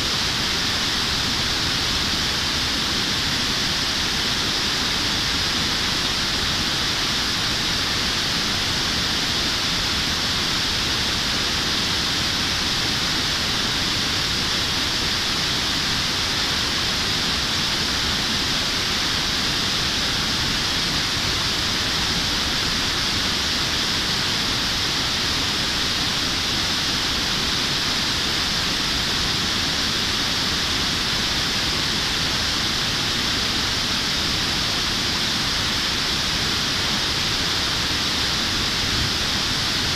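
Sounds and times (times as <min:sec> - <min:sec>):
stream pouring over weir: 0:00.0 - 0:39.9.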